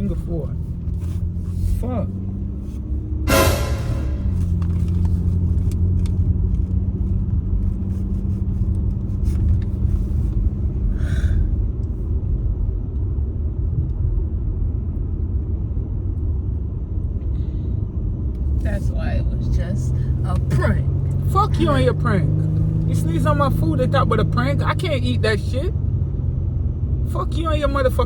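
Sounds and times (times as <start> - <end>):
car engine rumble from inside: 0.0 - 3.3, 4.2 - 28.0.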